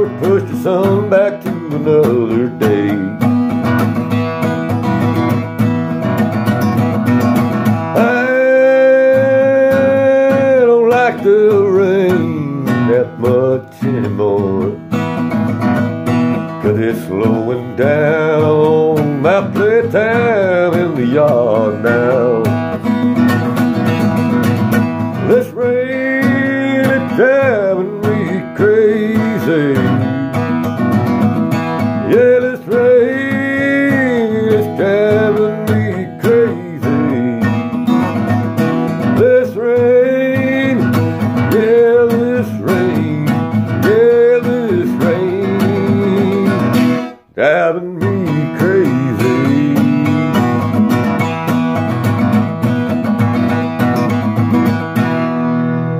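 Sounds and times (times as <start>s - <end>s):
acoustic guitar country tune: 0.0s - 55.9s.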